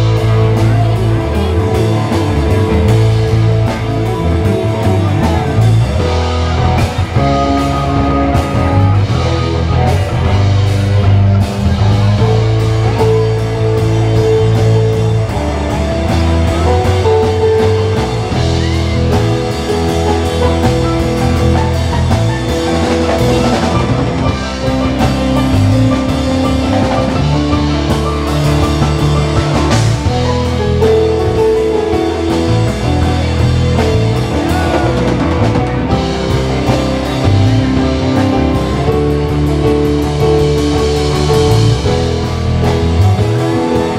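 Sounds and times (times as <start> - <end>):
funk rock band playing: 0.0 - 43.9
prominent bass line: 0.0 - 43.9.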